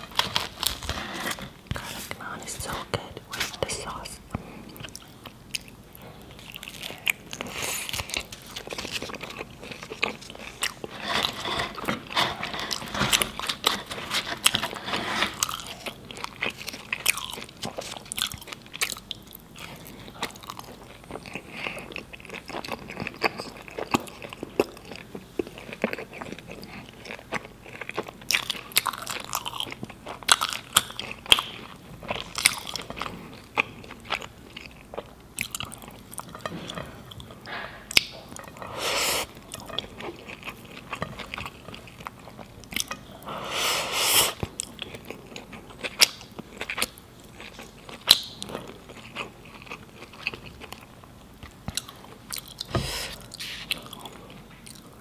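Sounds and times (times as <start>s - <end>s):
crunchy chewing: 4.7s - 55.0s.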